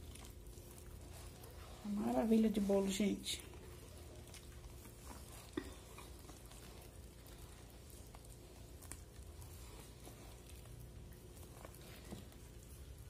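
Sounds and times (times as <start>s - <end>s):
low steady hum: 0.0s - 13.0s
whisk squishing batter: 0.0s - 13.0s.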